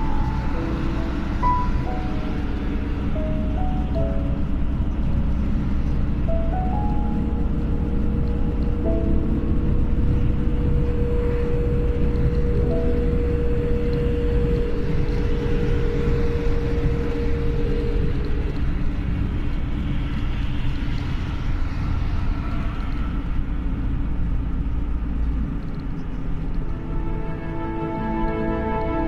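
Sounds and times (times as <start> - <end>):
car passing: 0.0 - 29.0
traffic rumble: 0.0 - 29.0.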